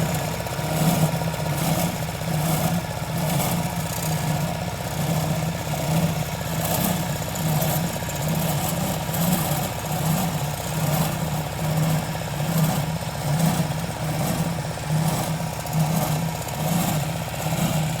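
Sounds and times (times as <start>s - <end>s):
construction equipment engine running: 0.0s - 18.0s.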